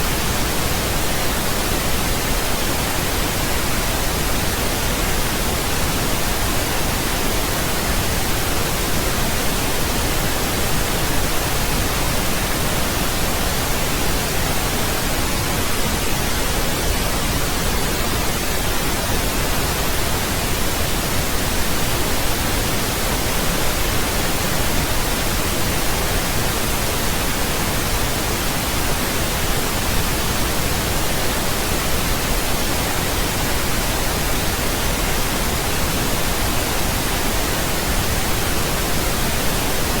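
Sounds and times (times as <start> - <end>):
steady pink noise hiss: 0.0 - 40.0.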